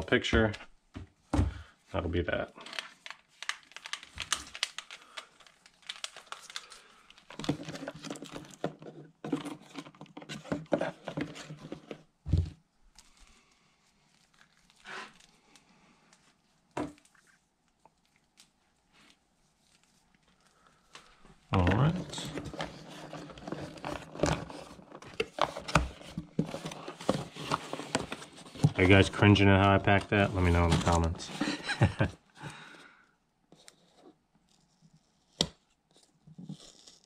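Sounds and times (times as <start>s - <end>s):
rustling and crinkling: 2.5s - 32.3s.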